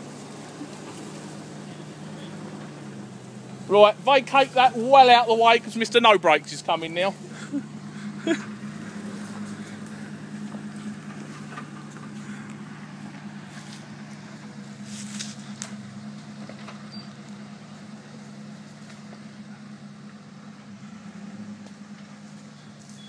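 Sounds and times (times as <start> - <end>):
engine running at low revs: 0.0 - 23.0.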